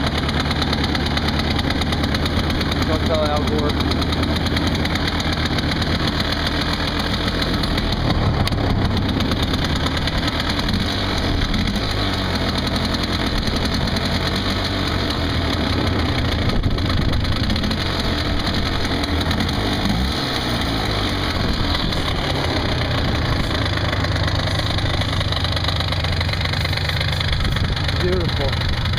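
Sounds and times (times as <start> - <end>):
two-stroke engine idling: 0.0 - 28.9.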